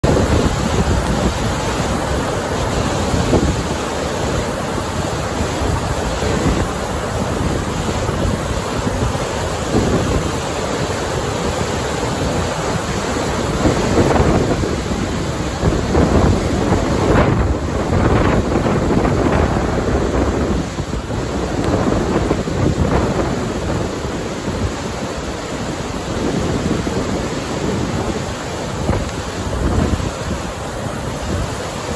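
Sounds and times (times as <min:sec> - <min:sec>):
floodwater rushing down dam: 0:00.0 - 0:31.9
wind buffeting microphone: 0:00.0 - 0:31.9.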